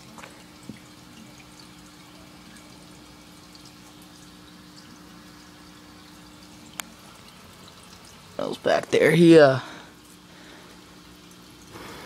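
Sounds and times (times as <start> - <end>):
faint drips: 0.0 - 12.0
water trickling: 0.0 - 12.0.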